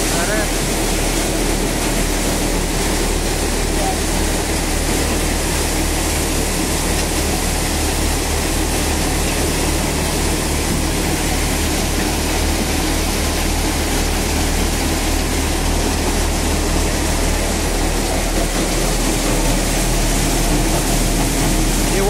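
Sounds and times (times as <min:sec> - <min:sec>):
thresher running: 0:00.0 - 0:22.0.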